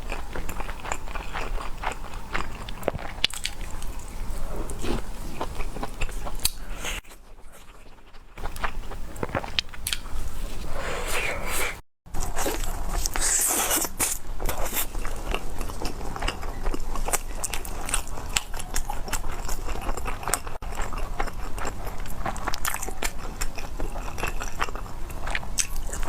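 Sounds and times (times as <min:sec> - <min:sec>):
crunchy chewing: 0:00.0 - 0:26.0.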